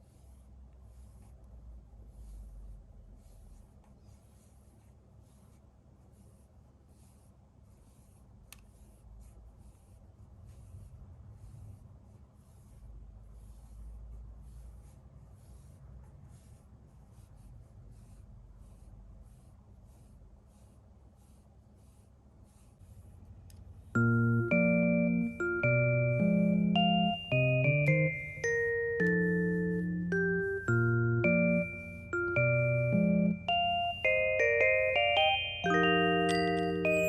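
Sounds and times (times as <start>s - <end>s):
paddle brushing dog fur: 0.0s - 35.1s.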